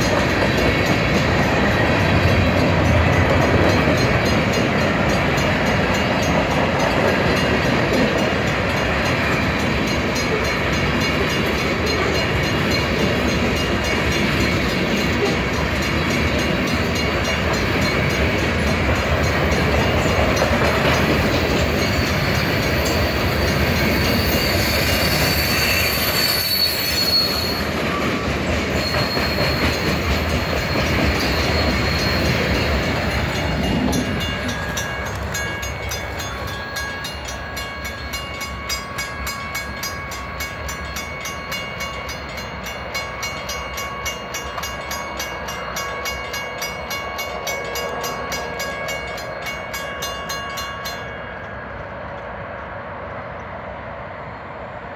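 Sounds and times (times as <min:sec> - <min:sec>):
crossing bell ringing: 0:00.0 - 0:52.4
train wheel squeal: 0:00.0 - 0:53.6
freight train cars rumbling: 0:00.0 - 0:54.9.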